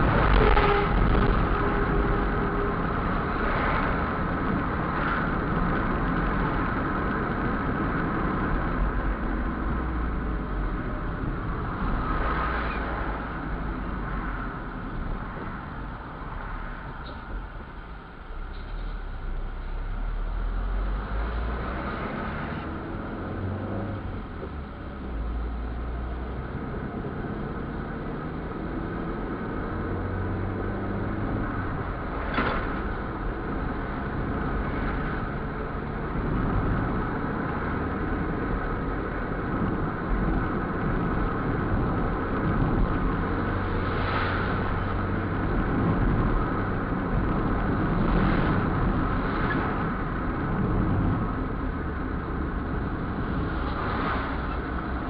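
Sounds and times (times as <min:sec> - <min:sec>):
engine and road noise in vehicle: 0:00.0 - 0:55.0.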